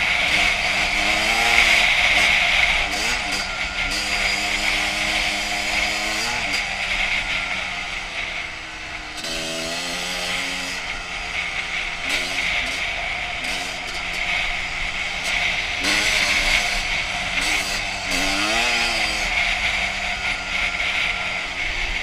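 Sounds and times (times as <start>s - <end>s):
two-stroke motorcycle engine running: 0.0s - 22.0s.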